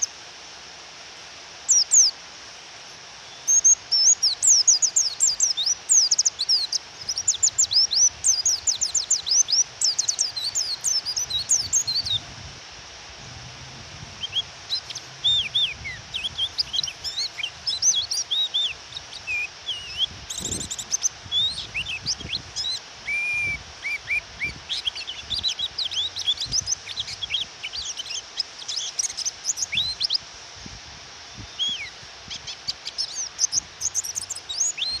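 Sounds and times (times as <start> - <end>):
rain hiss: 0.0 - 35.0
bird high chirps and twitters: 3.5 - 12.2, 14.2 - 30.2, 31.4 - 35.0.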